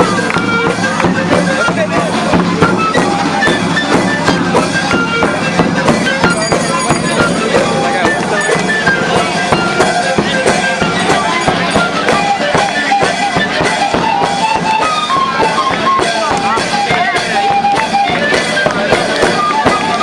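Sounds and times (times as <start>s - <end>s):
crowd noise: 0.0s - 20.0s
drums fast beat: 0.0s - 20.0s
stepping melody: 0.0s - 20.0s.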